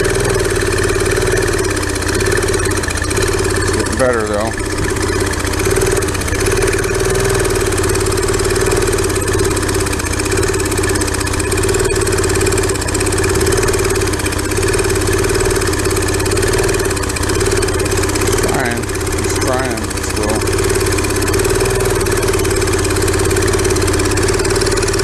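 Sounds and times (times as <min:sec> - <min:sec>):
small engine running unevenly: 0:00.0 - 0:25.0.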